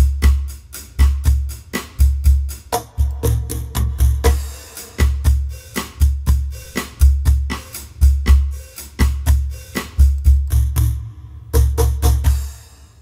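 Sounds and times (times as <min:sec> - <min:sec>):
cajon drum beat: 0:00.0 - 0:12.5.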